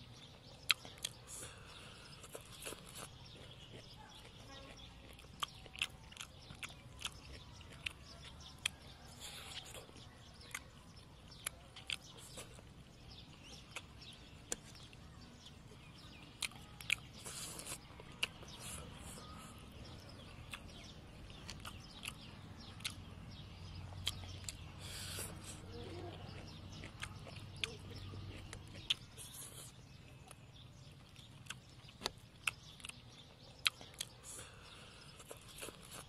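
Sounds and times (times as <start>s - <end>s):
chewing crispy food: 0.0s - 36.0s.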